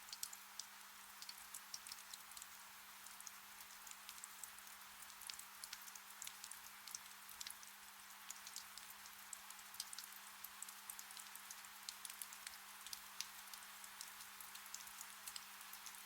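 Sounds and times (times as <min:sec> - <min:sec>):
gentle rain falling: 0:00.0 - 0:16.0.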